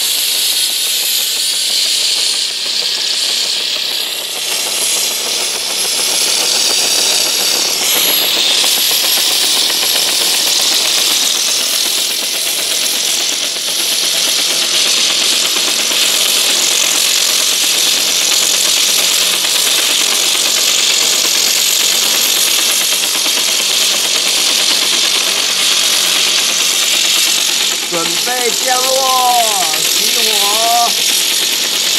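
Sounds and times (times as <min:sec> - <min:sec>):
helicopter turbine whine and rotor chop: 0:00.0 - 0:31.9.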